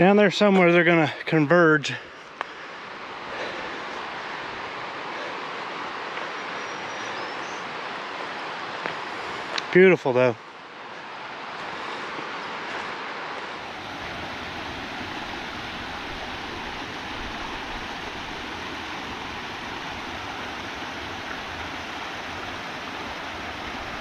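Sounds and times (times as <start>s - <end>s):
creek cascading over rocks: 0.0s - 24.0s.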